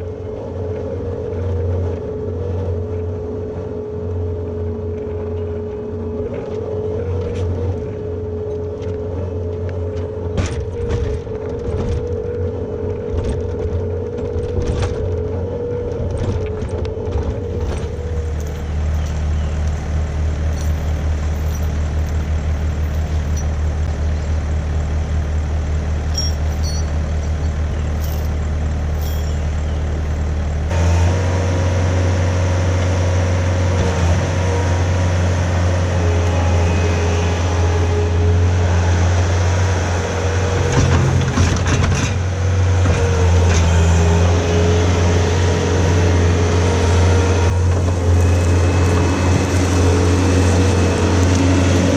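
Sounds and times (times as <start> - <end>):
skid steer engine drone with whine: 0.0 - 51.9.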